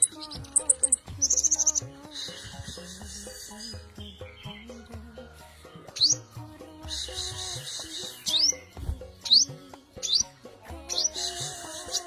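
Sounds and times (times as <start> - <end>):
bird calling: 0.0 - 4.9, 6.9 - 12.0
background music: 0.0 - 12.0.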